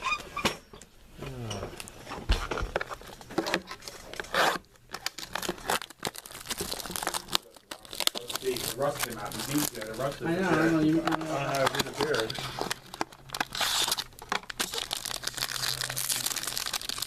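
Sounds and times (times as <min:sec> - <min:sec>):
plastic wrapping crinkling and tearing: 0:01.8 - 0:17.0.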